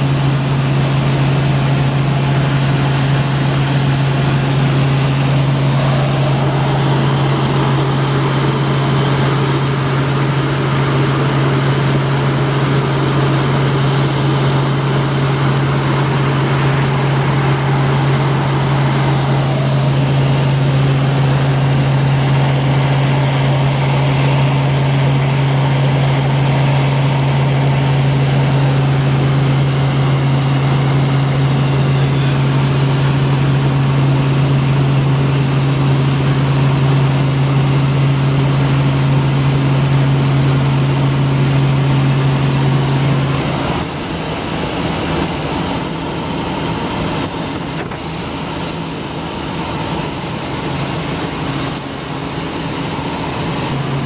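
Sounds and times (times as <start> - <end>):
helicopter rotor and engine hum: 0.0 - 54.0.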